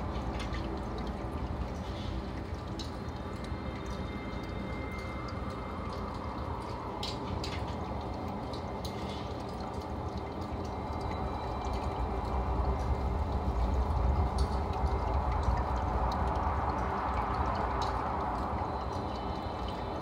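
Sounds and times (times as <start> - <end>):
aquarium water bubbling: 0.0 - 20.0.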